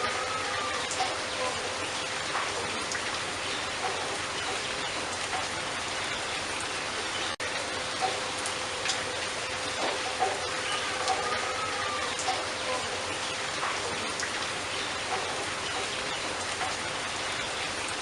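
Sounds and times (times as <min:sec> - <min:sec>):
rain or running water hiss: 0:00.0 - 0:18.0.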